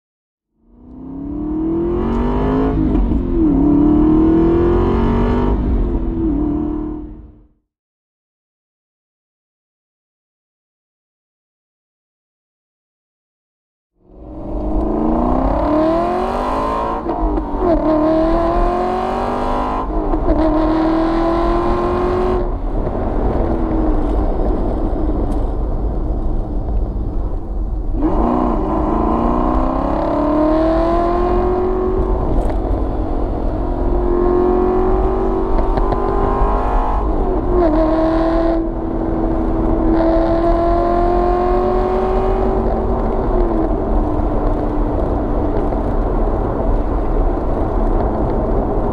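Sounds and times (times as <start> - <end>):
car engine and exhaust accelerating: 0.6 - 7.6, 14.0 - 48.9.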